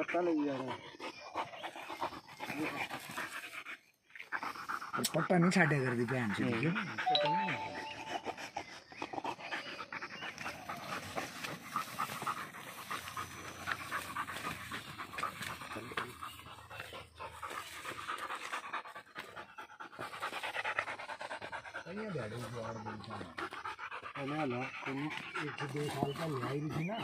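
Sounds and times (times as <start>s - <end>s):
dog panting hard: 0.0s - 27.0s.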